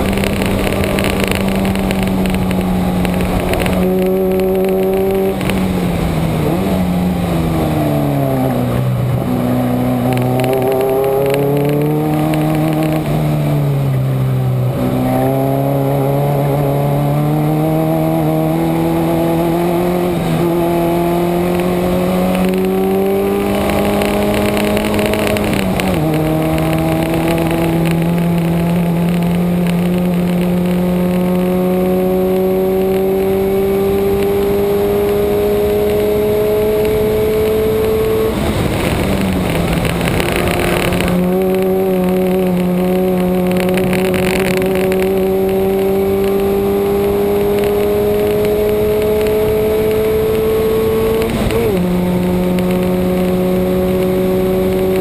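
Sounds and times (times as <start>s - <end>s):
racing car engine: 0.0s - 55.0s
wind on microphone: 0.0s - 55.0s.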